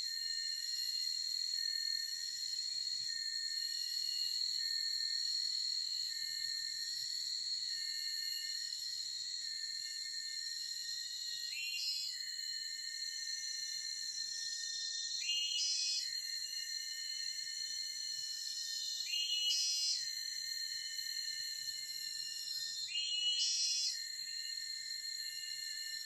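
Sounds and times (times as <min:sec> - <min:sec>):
forest insects chirring: 0:00.1 - 0:26.0.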